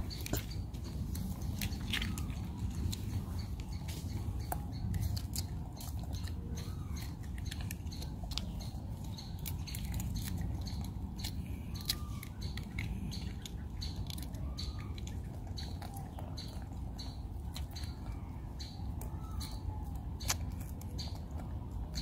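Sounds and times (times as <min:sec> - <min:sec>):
monkeys crunching and chewing: 0:00.0 - 0:22.0.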